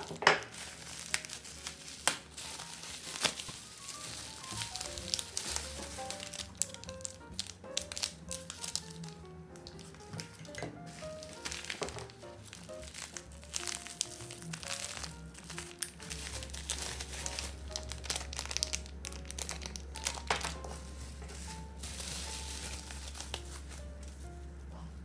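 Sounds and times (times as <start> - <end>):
bubble-wrap packaging crinkling: 0.0 - 25.0
soft background music: 0.0 - 25.0.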